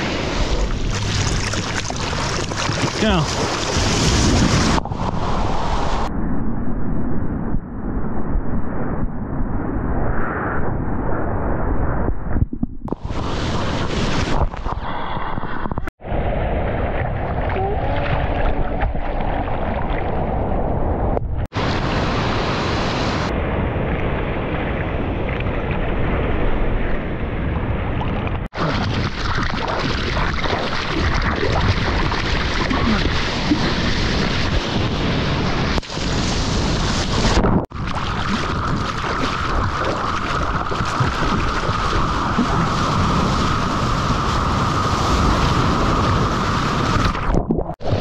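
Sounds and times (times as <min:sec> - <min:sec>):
surf rumbling: 0:00.0 - 0:06.2, 0:11.0 - 0:48.0.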